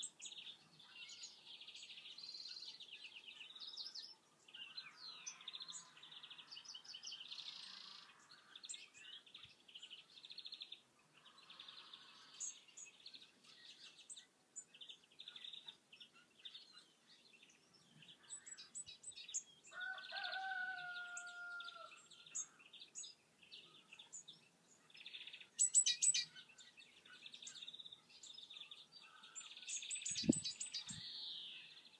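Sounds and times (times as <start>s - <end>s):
birds chirping and singing: 0.0s - 31.9s.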